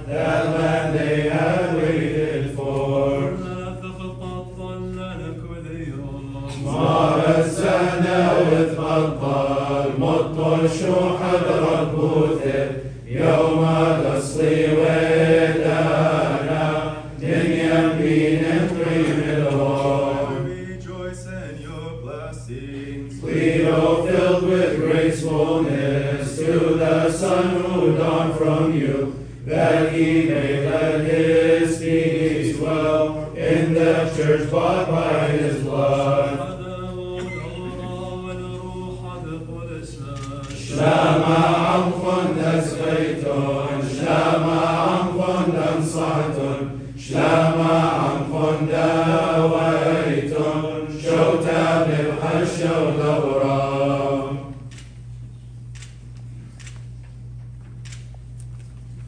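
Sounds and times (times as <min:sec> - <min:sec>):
voices chanting: 0:00.0 - 0:54.6.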